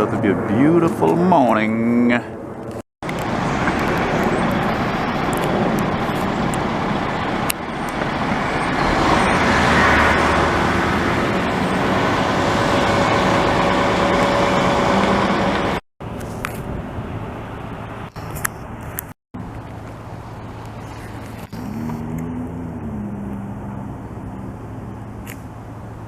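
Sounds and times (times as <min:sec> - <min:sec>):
highway traffic noise: 0:00.0 - 0:26.0.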